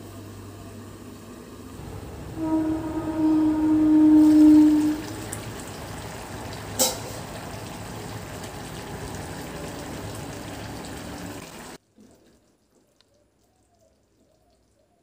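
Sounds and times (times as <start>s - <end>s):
curry bubbling: 2.4s - 15.0s.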